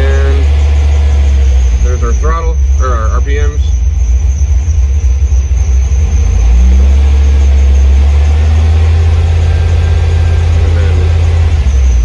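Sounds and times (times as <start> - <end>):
engine rumbling at held revs: 0.0 - 12.0.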